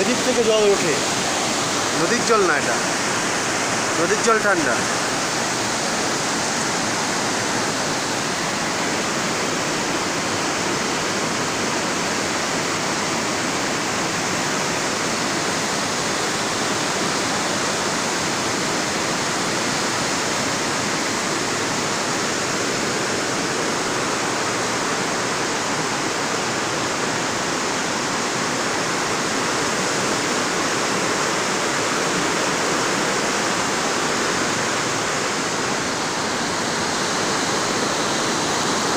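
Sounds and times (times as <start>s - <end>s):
water rushing over boulders: 0.0s - 38.9s.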